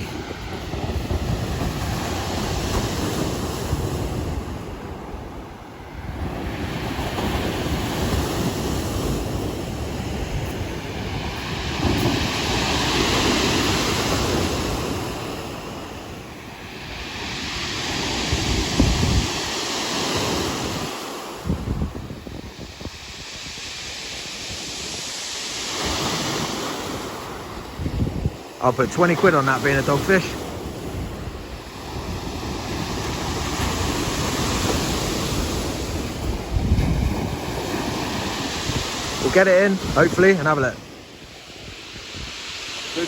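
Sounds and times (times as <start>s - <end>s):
waves breaking on beach: 0.0s - 43.0s
wind rumbling on microphone: 0.0s - 43.0s.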